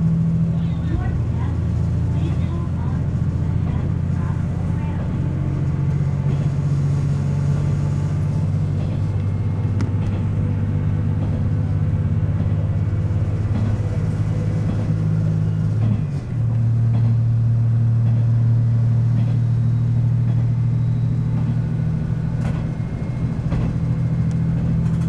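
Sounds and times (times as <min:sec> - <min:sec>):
diesel railcar engine droning: 0:00.0 - 0:25.0.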